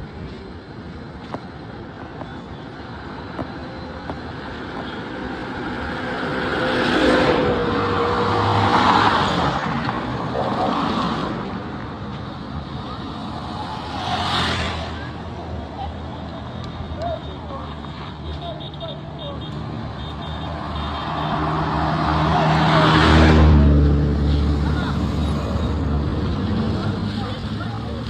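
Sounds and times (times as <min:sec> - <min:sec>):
background traffic: 0:00.0 - 0:28.0.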